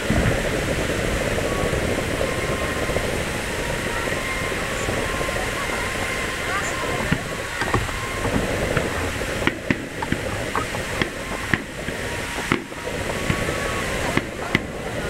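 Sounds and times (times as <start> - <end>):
firework shells bursting: 0.0 - 15.0
steady rushing background: 0.0 - 15.0.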